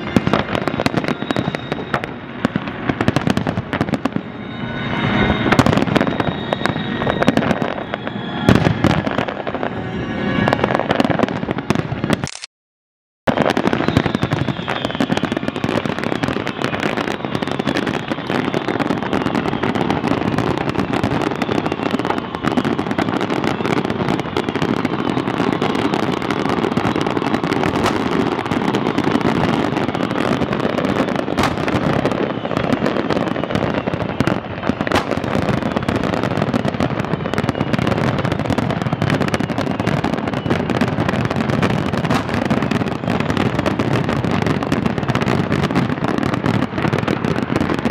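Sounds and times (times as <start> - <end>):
fireworks bangs and crackling: 0.0 - 12.3, 13.3 - 47.9
sharp fireworks cracks: 0.0 - 12.5, 13.3 - 47.9.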